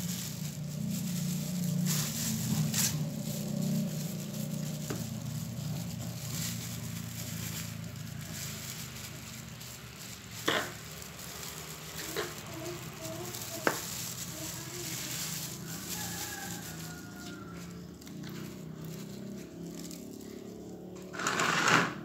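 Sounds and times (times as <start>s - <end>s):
paintbrush sweeping soil: 0.0s - 18.5s.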